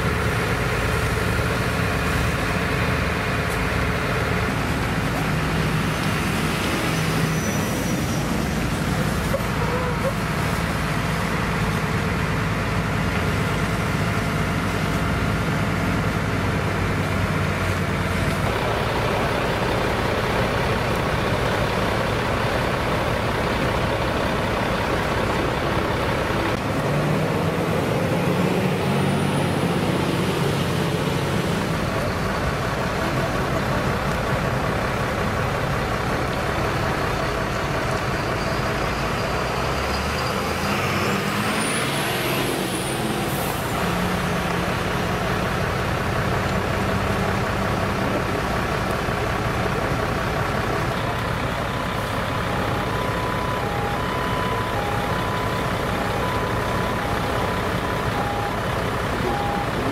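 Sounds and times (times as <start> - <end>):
fire hose rushing: 0.0 - 59.9
fire truck diesel engines: 0.0 - 59.9.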